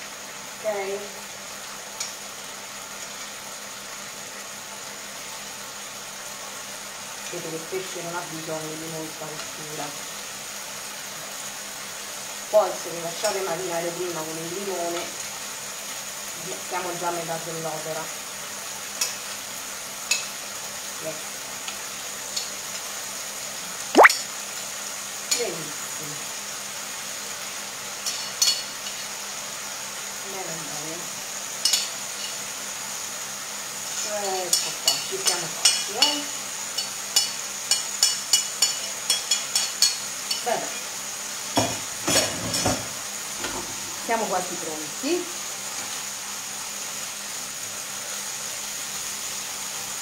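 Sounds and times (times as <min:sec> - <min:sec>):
fish sizzling in a pan: 0:00.0 - 0:50.0.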